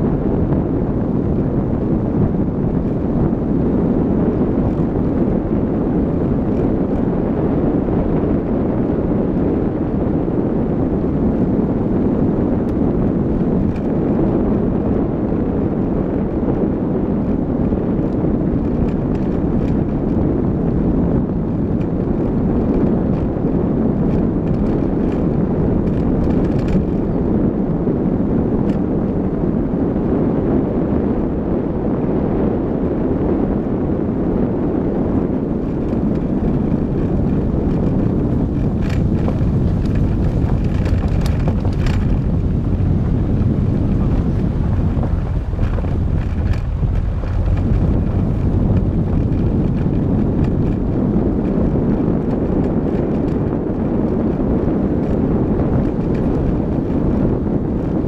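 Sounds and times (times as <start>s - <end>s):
car engine and tyre rumble: 0.0s - 58.0s
wind noise on microphone: 0.0s - 58.0s.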